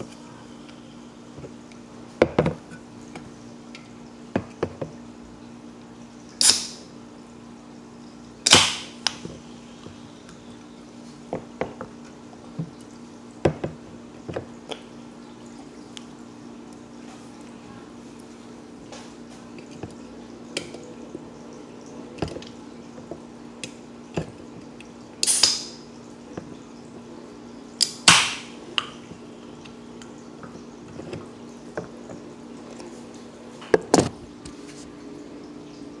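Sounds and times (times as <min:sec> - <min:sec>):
carbonation hissing: 0:00.0 - 0:36.0.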